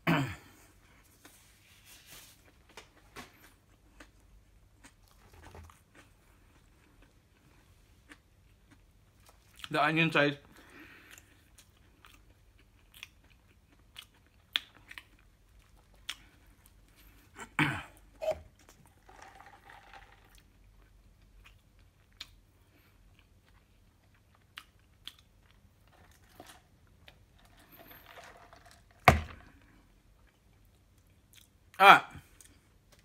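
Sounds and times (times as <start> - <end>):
chewing a burger: 2.4 - 9.7, 10.5 - 17.6, 18.5 - 28.8, 29.5 - 33.0.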